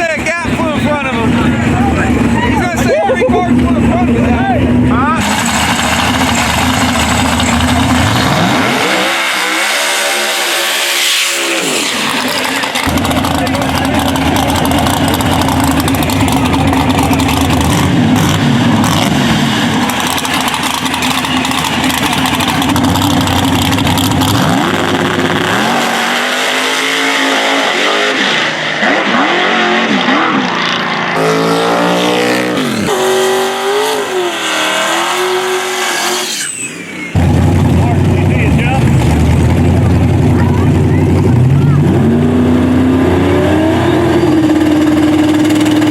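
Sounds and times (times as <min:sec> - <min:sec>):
drag race car engines: 0:00.0 - 0:45.9.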